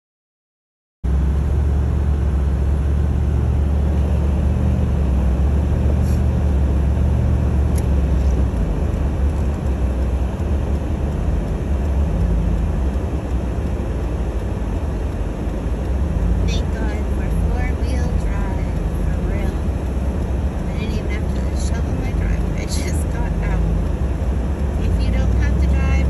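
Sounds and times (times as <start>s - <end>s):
car driving on snowy road: 1.1s - 26.0s.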